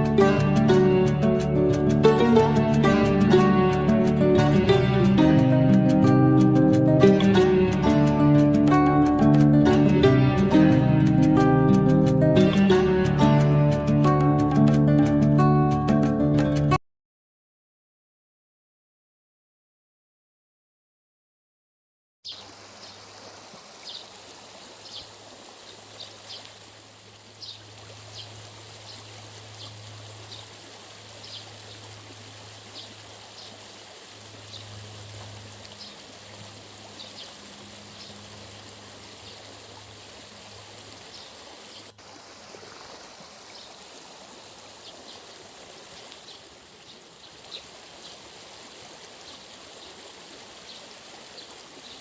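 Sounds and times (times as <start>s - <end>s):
running water rushing: 0.0s - 15.5s, 22.2s - 52.0s.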